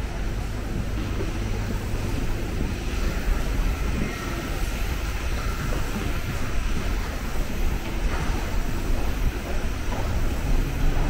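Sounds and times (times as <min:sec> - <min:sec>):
rushing noise: 0:00.0 - 0:11.0
train rumbling: 0:00.0 - 0:11.0.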